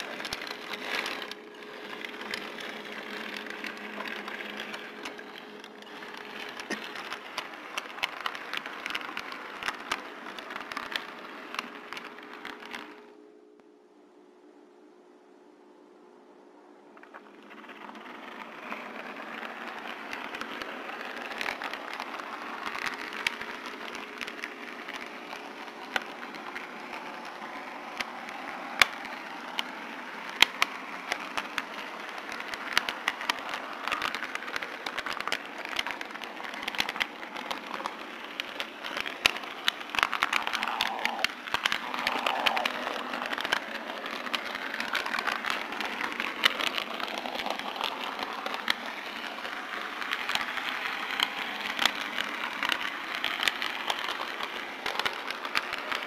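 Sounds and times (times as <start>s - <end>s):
wheels clicking over rail joints: 0.0s - 13.0s, 17.0s - 56.0s
model train wheels rumbling on rails: 0.0s - 13.2s, 16.9s - 56.0s.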